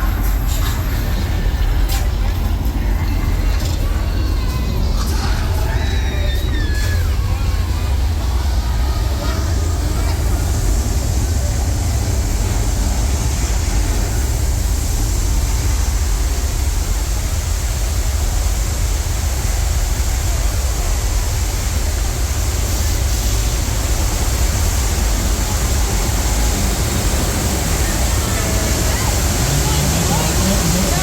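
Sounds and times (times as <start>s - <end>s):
rushing hiss: 0.0s - 31.0s
tram running with low rumble: 0.0s - 31.0s.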